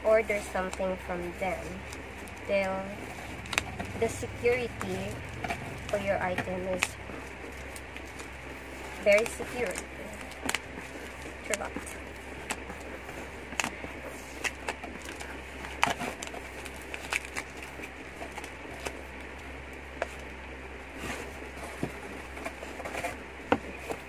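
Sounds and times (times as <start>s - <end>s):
steady background hiss: 0.0s - 24.0s
cardboard box crackling: 0.2s - 24.0s.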